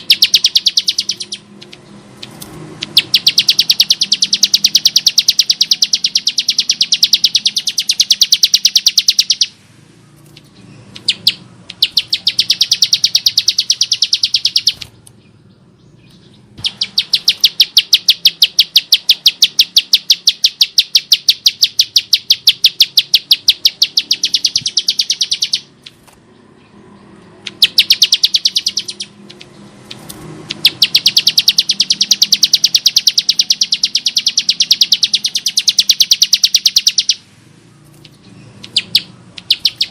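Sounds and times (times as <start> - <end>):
bird singing sharp chip notes: 0.0 - 9.6, 10.2 - 39.9.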